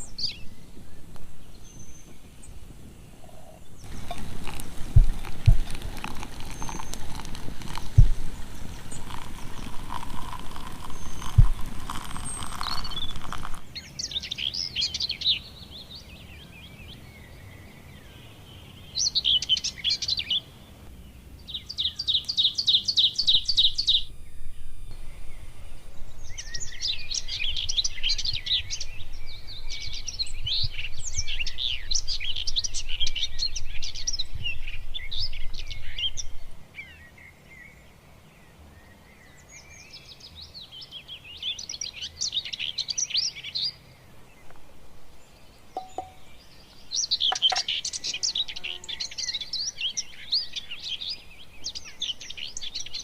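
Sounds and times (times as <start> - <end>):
birds singing and chirping: 0.0 - 53.0.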